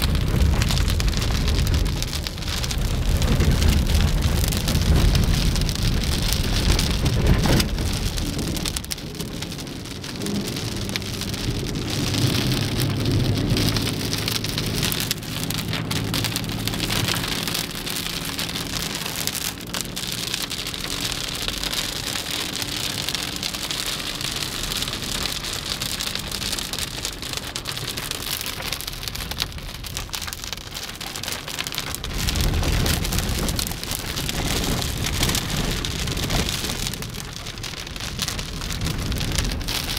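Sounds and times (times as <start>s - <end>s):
heavy rain falling: 0.0s - 39.9s
low rumbles: 0.0s - 39.9s.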